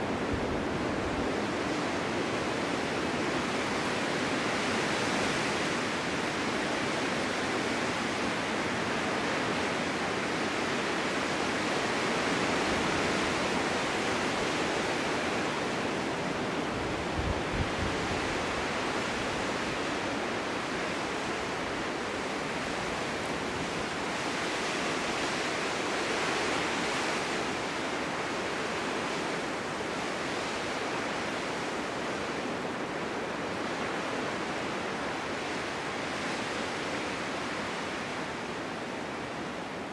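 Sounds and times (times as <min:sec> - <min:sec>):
snowstorm wind blowing: 0:00.0 - 0:39.9.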